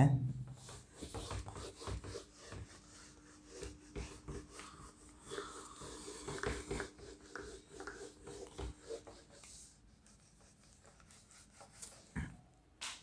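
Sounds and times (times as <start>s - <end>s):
eraser rubbing on whiteboard: 0.5s - 12.2s.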